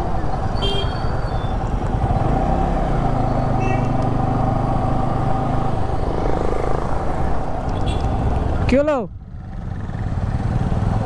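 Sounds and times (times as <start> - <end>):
motorcycle engine hum: 0.0 - 11.0
road noise: 0.0 - 11.0.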